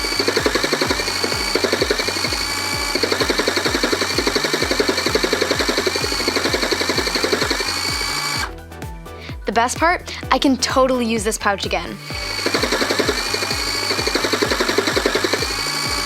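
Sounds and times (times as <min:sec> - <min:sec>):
upbeat music with deep bass: 0:00.0 - 0:16.0.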